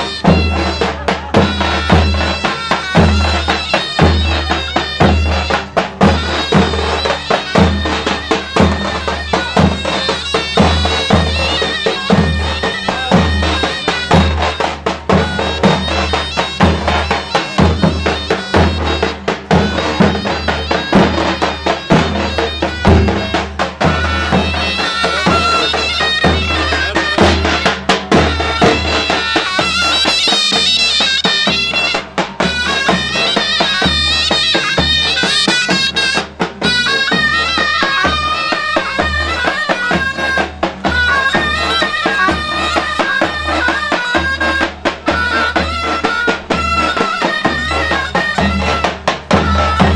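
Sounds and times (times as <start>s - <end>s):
low davul drum beats: 0.0s - 49.9s
reedy zurna melody: 0.0s - 49.9s.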